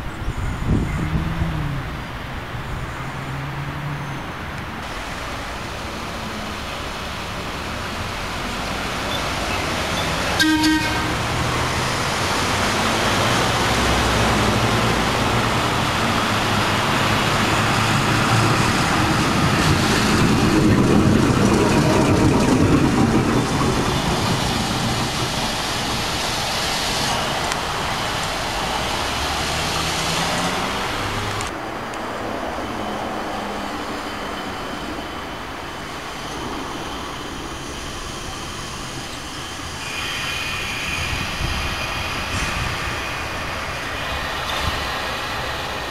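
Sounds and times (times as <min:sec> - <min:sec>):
tram car running on track: 0:00.0 - 0:45.9.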